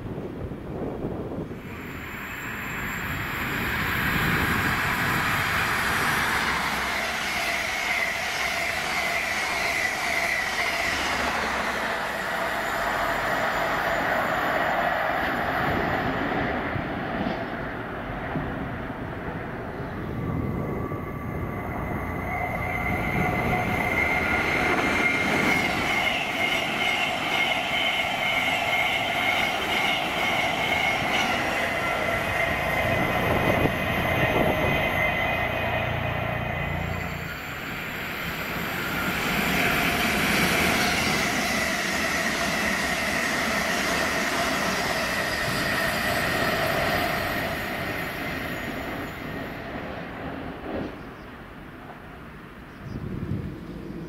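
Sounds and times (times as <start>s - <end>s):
train wheels rumbling on rails: 0.0s - 54.0s
high whining tones: 1.5s - 17.0s, 19.2s - 49.8s.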